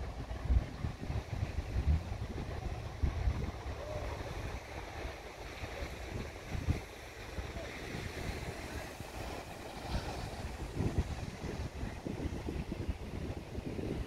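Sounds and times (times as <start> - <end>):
small waves breaking on sand: 0.0 - 14.0
wind buffeting microphone: 0.0 - 14.0.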